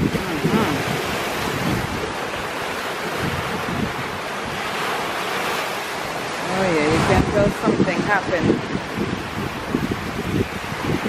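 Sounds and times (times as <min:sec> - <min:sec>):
waves breaking on shore: 0:00.0 - 0:11.0
wind buffeting microphone: 0:00.0 - 0:11.0.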